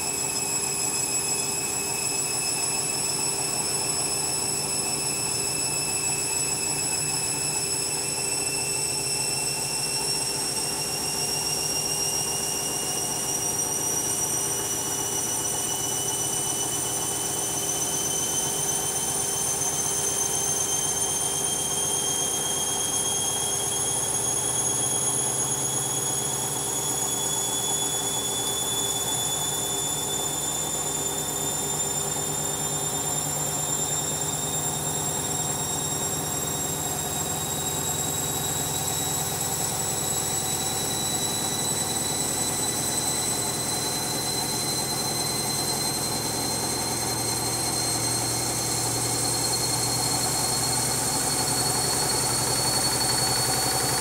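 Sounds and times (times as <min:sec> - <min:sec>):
washing machine spin whine: 0:00.0 - 0:54.0.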